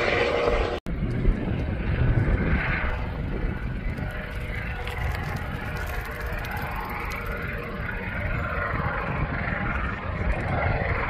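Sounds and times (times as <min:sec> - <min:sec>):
distant helicopter drone: 0:00.0 - 0:11.0
uneven low rumble: 0:00.0 - 0:11.0.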